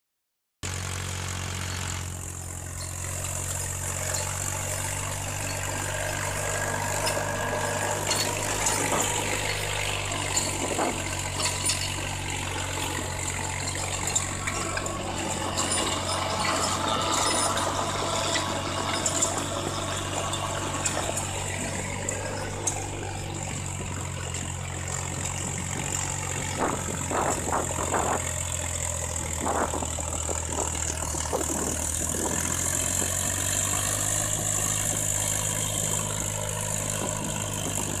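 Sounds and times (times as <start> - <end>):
tractor diesel engine running: 0.6 - 38.0.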